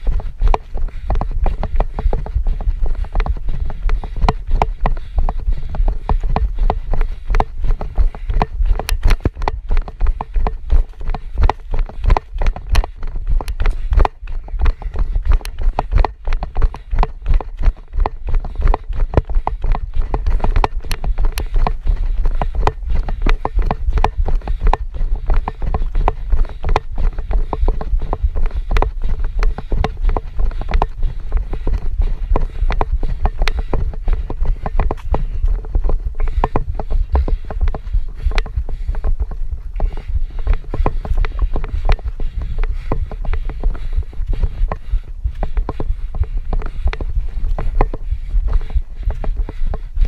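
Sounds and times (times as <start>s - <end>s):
camera knocks and rattles: 0.0s - 50.0s
running footsteps on dirt: 0.0s - 50.0s
wind noise: 0.0s - 50.0s.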